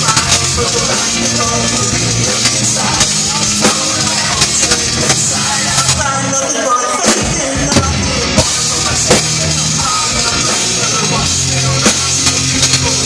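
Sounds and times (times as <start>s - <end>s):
bass guitar: 0.0s - 13.0s
drum kit with cymbals: 0.0s - 13.0s
electric guitars: 0.0s - 13.0s.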